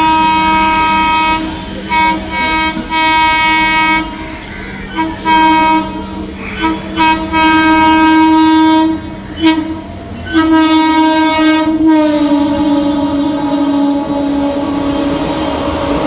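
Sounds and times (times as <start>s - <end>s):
train horn blasts: 0.0s - 16.0s
train running noise: 0.0s - 16.0s.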